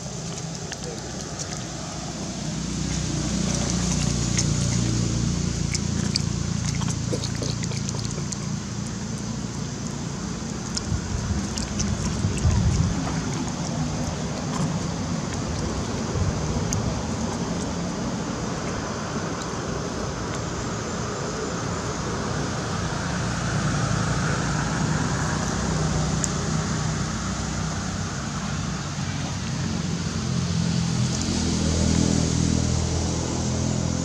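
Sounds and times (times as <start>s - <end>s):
low ragged rumble: 0.0s - 34.0s.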